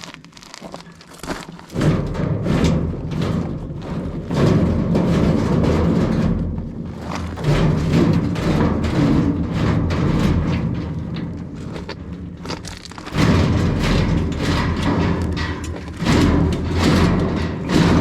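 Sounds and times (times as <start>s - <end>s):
metal cabinet scraping over dirt: 1.5s - 18.0s.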